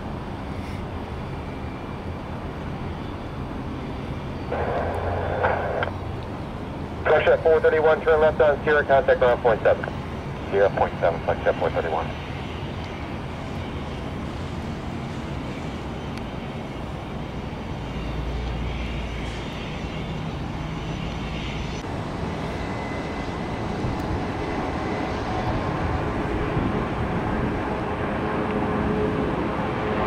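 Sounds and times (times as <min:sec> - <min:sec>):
jet engines roaring on takeoff: 0:00.0 - 0:30.0
jet fan whine: 0:00.0 - 0:30.0
jet taxiing: 0:00.1 - 0:30.0.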